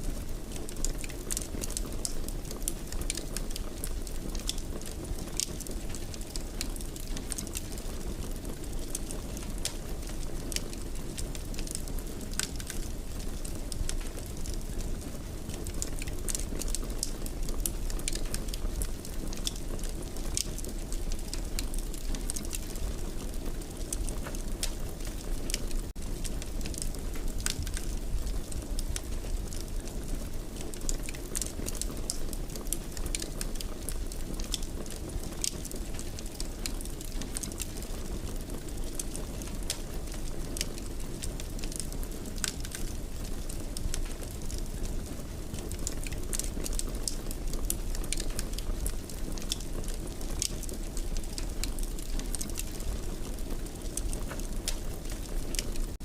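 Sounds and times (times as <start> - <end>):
fire crackling in fireplace: 0.0 - 56.0.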